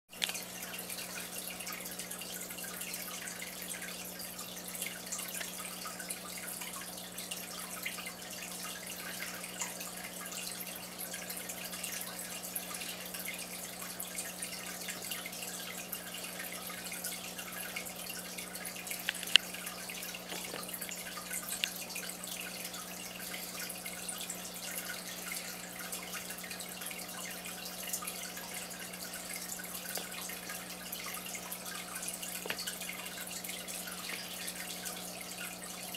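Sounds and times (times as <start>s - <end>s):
water trickling and dripping: 0.1s - 35.9s.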